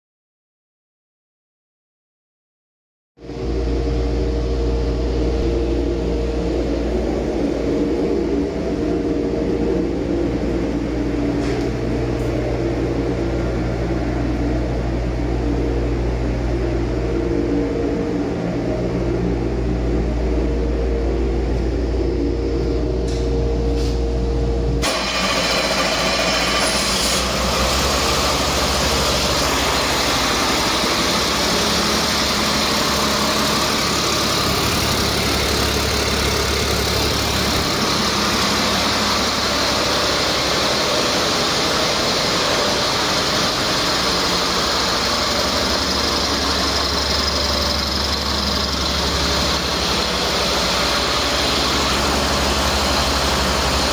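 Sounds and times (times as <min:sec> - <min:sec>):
low hum: 0:03.2 - 0:53.9
diesel engine idling: 0:03.3 - 0:53.9.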